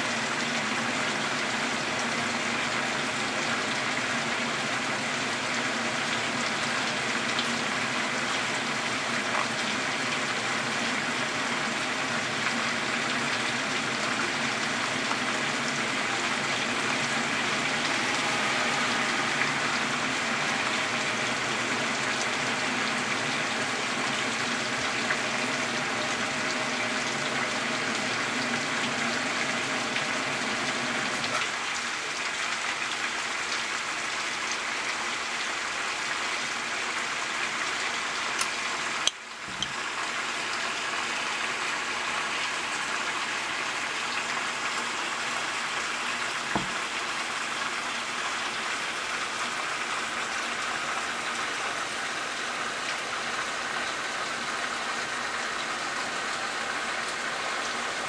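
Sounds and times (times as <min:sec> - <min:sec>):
heavy rain on a roof: 0:00.0 - 0:58.0
running water: 0:00.0 - 0:58.0.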